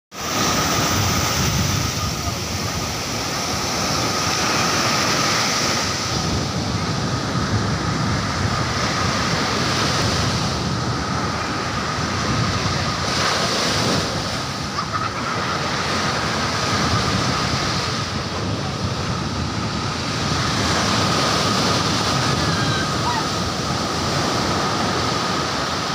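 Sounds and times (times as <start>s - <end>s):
waves washing up a beach: 0.1s - 25.9s
wind buffeting microphone: 0.2s - 25.9s.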